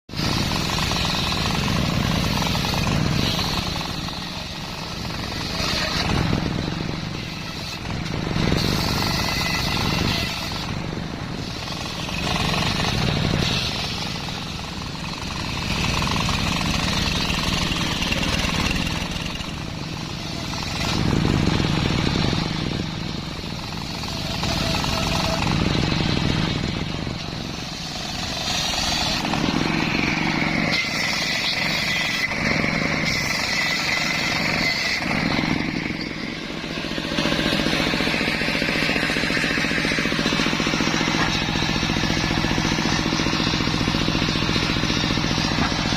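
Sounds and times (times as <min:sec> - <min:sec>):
circular saw cutting log: 0:00.1 - 0:45.9.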